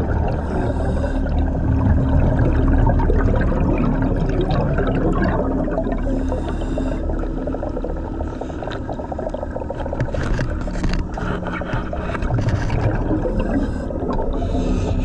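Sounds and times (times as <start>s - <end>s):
diver's breathing bubbles gurgling: 0.0s - 15.0s
faint steady tones: 0.0s - 15.0s
low hum: 0.0s - 15.0s.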